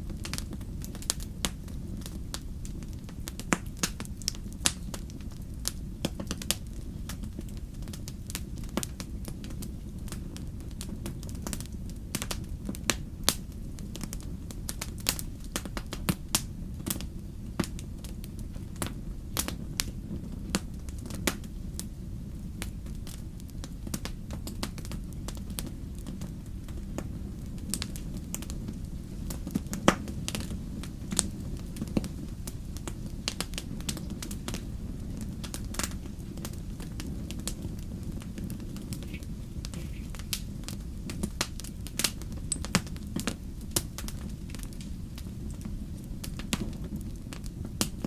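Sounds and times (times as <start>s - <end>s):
campfire crackling and popping: 0.0s - 48.0s
loud fire snap: 0.0s - 48.0s
low rumble of flames: 0.0s - 48.0s.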